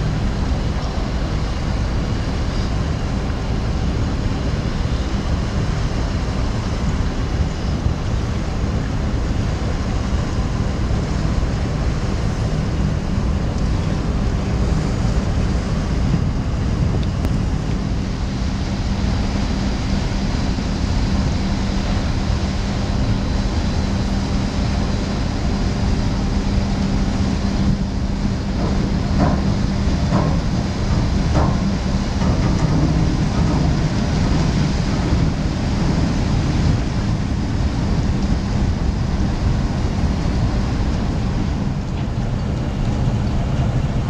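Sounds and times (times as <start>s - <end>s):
ship diesel engines droning: 0.0s - 44.0s
water noise: 0.0s - 44.0s.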